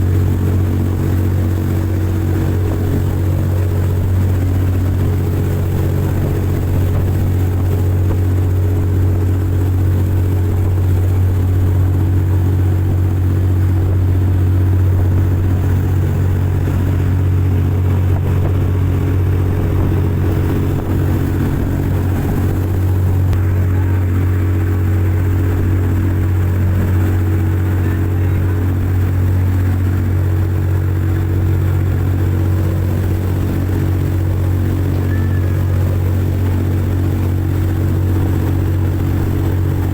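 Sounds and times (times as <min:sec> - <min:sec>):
boat engine running at high speed: 0:00.0 - 0:39.9.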